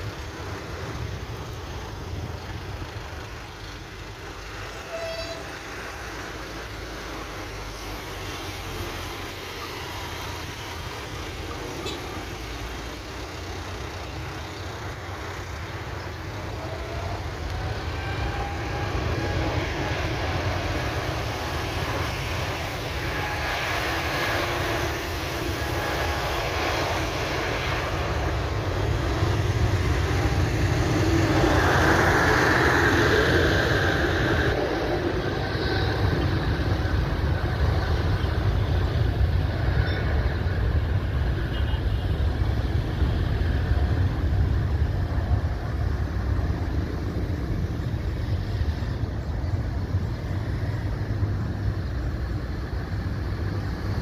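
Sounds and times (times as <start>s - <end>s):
jet engines rumbling and whining: 0.0s - 54.0s.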